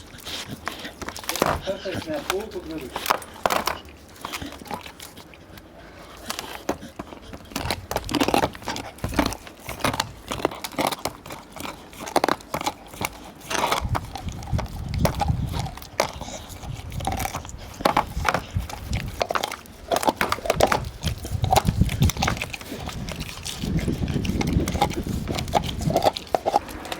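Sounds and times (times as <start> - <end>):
dog gnawing a bone: 0.0 - 26.9.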